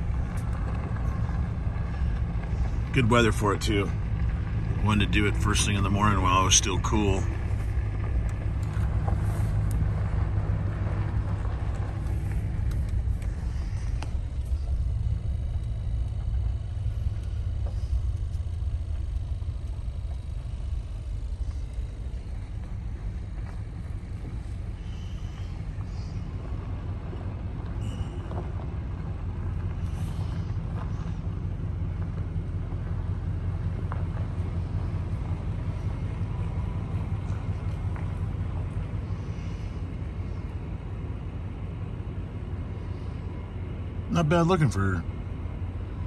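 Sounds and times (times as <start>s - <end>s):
road noise inside cabin: 0.0s - 46.0s
vehicle engine rumble: 0.0s - 46.0s.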